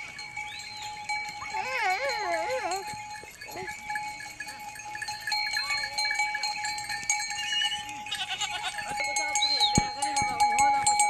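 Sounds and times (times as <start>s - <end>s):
goat bells clinking: 0.0s - 11.0s.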